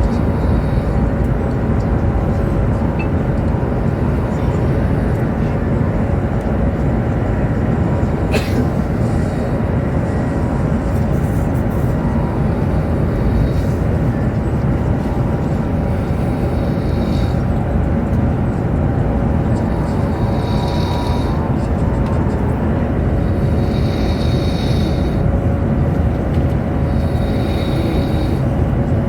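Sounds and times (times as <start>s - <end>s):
train low rumble from inside: 0.0s - 29.0s.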